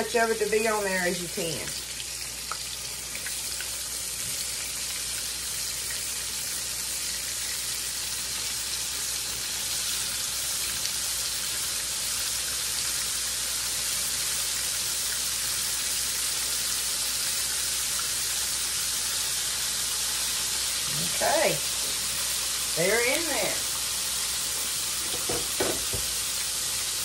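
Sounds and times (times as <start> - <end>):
meat sizzling in a skillet: 0.0 - 27.0.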